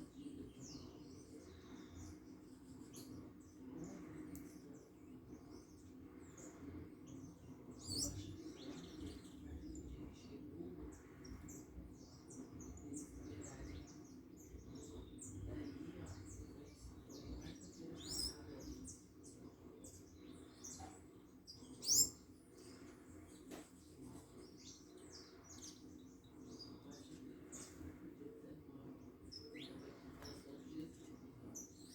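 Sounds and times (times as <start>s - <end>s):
small birds chirping: 0.0s - 31.9s
steady low hum: 0.0s - 31.9s.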